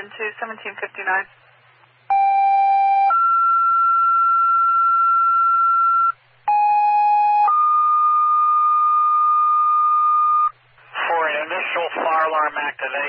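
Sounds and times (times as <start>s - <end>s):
two-tone radio paging tones: 2.1s - 12.8s.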